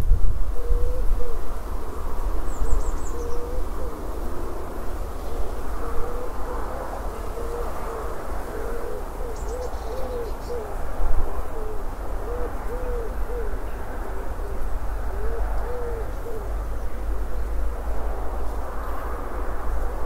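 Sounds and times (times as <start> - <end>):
steady low rumble: 0.0 - 20.0
dove cooing: 0.5 - 17.7.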